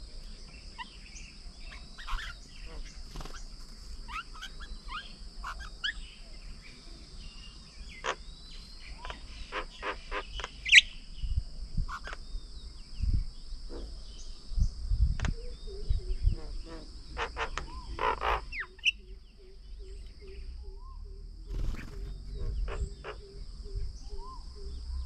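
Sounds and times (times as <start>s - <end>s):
high insect drone: 0.0s - 25.0s
small birds chirping: 0.0s - 25.0s.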